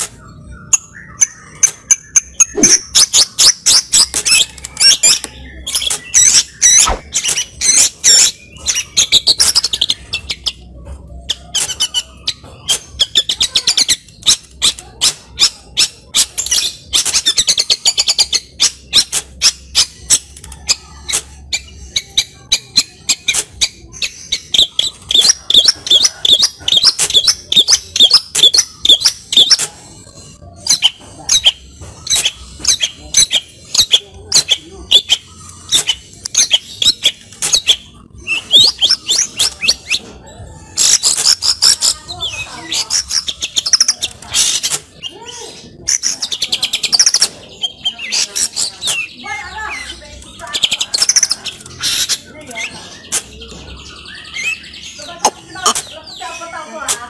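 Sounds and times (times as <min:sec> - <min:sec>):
bird singing chattering notes: 0:00.0 - 0:57.0.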